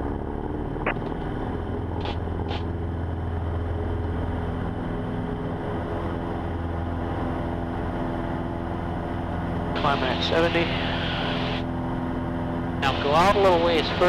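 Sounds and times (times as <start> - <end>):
airplane engine at full power: 0.0 - 14.0.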